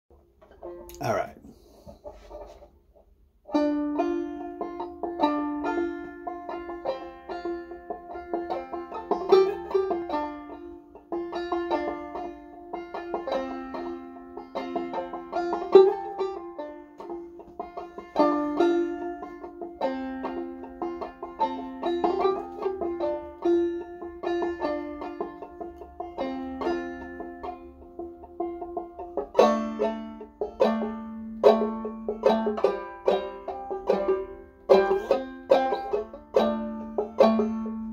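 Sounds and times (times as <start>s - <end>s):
banjo playing old-time tune: 0.1s - 1.0s, 1.7s - 37.9s.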